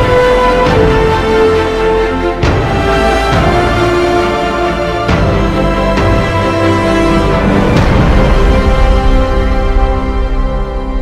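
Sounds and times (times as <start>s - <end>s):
theme music with sustained chords: 0.0s - 11.0s.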